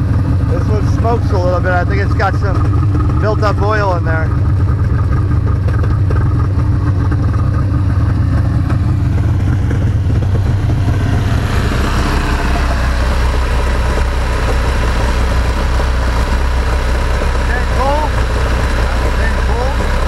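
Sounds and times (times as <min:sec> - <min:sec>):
boat engines idling: 0:00.0 - 0:20.0.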